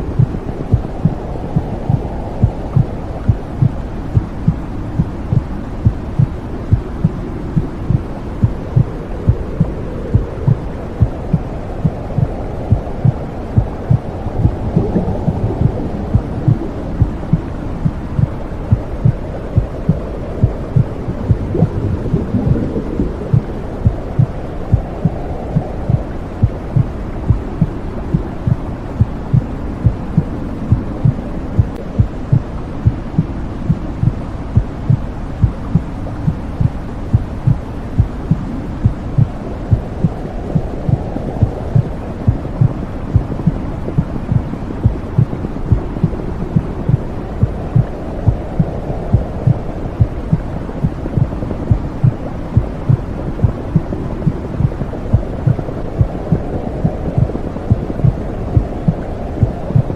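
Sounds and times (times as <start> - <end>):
heartbeat pulsing: 0.0 - 59.9
low whooshing noise: 0.0 - 59.9.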